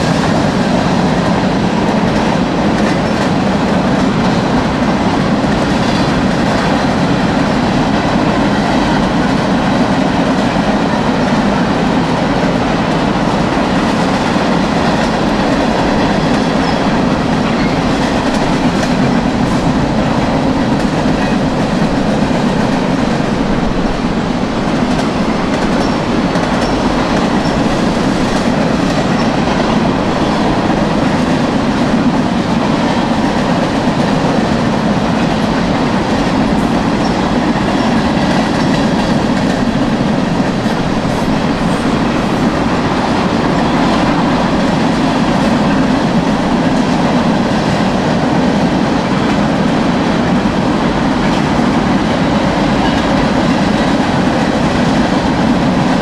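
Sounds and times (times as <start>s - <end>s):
train wheels clacking on rails: 0.0s - 56.0s.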